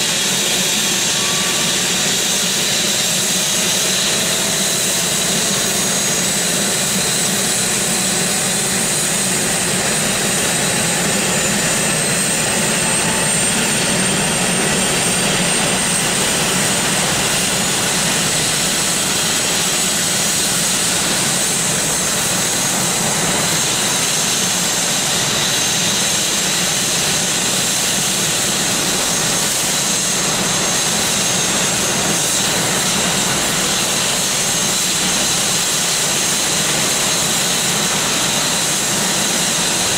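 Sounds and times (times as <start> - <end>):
engine and rotor rush: 0.0 - 39.9
helicopter turbine whine: 0.0 - 39.9.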